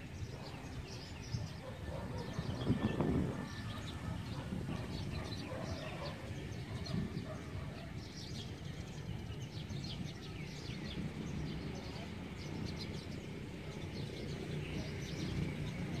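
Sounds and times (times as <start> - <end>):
low outdoor background noise: 0.0 - 16.0
small birds chirping: 0.0 - 16.0.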